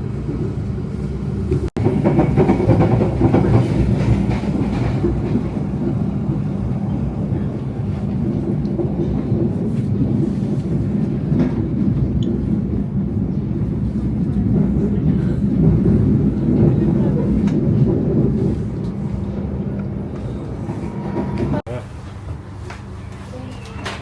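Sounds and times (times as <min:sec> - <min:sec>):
train rumbling along track: 0:00.0 - 0:24.0.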